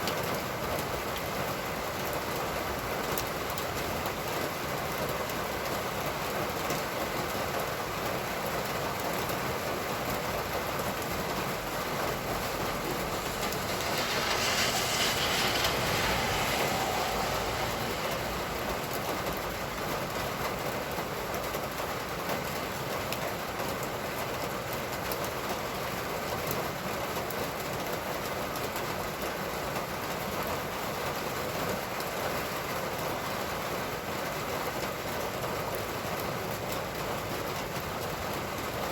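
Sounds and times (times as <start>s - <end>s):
steady rain: 0.0s - 38.9s
vehicle tyres hissing on wet road: 0.0s - 38.9s.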